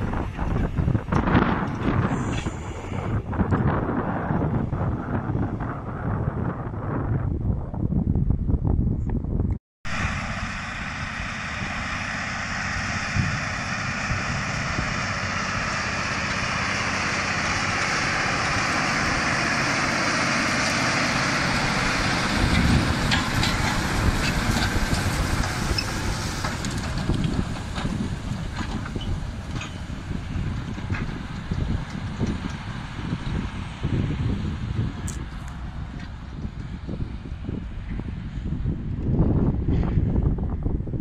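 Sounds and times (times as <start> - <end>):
tractor diesel engine under load: 0.0 - 8.0, 9.9 - 41.0.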